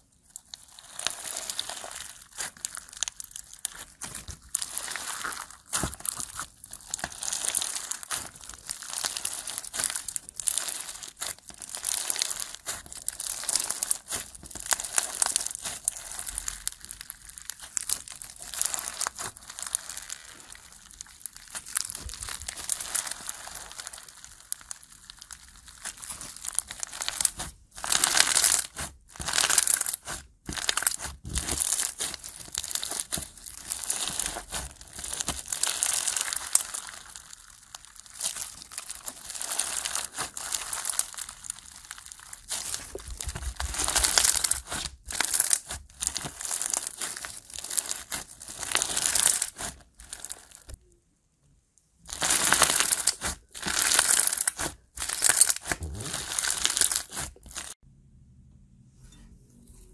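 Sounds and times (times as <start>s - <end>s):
slime squeezed crunchy crackles: 0.2s - 50.8s, 52.0s - 57.8s.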